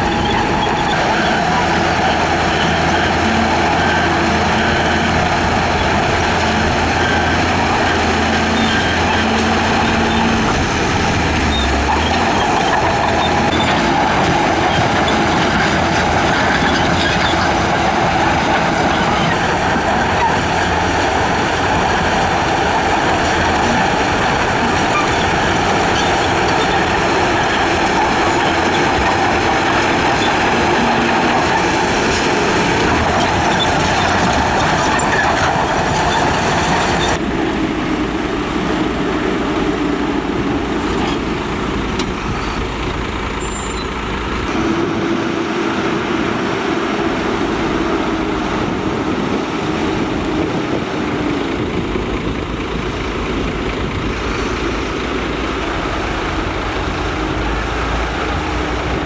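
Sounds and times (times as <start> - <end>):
diesel construction machinery running: 0.0 - 59.0.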